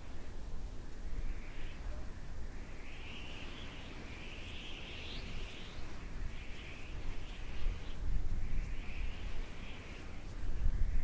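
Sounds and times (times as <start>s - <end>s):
wind rumble on microphone: 0.0s - 11.0s
bird song: 1.2s - 11.0s.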